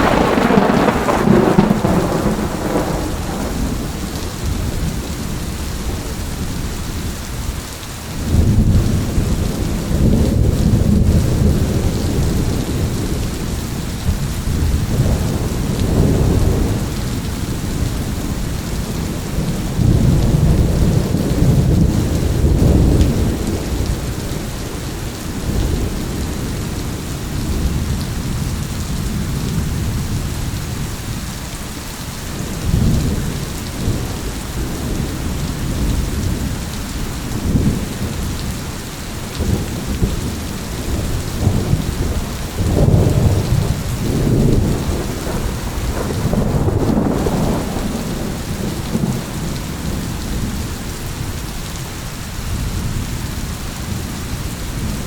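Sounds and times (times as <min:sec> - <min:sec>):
thunder rumbling: 0:00.0 - 0:07.6, 0:08.2 - 0:31.4, 0:32.3 - 0:51.9
steady rain falling: 0:00.0 - 0:55.0.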